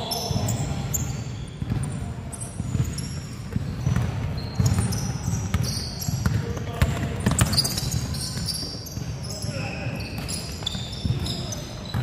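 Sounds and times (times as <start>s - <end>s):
sneakers squeaking on floor: 0.0s - 12.0s
basketball dribbling thuds: 1.5s - 12.0s.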